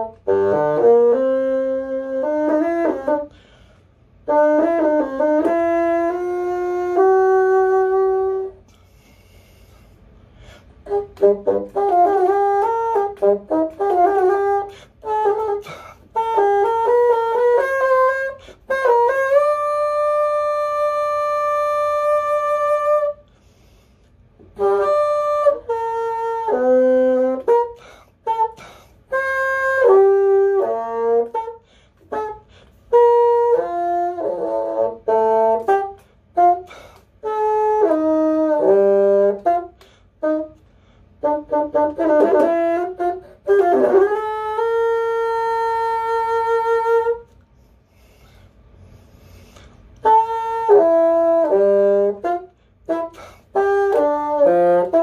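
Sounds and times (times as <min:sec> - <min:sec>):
solo bassoon melody: 0:00.0 - 0:55.0.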